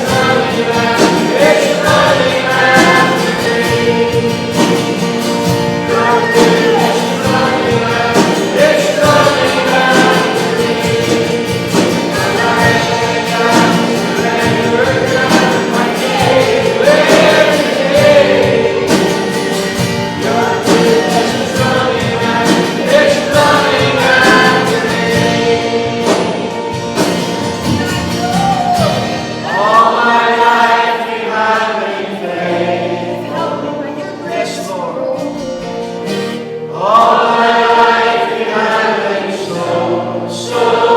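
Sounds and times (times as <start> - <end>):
group singing worship song: 0.0 - 40.9
instrumental accompaniment: 0.0 - 40.9.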